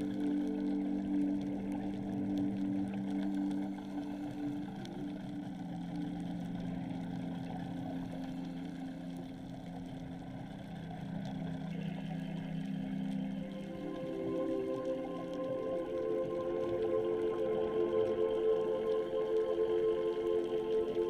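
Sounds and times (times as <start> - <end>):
crackly hiss of reef: 0.0 - 21.0
underwater boat engine drone: 0.0 - 21.0.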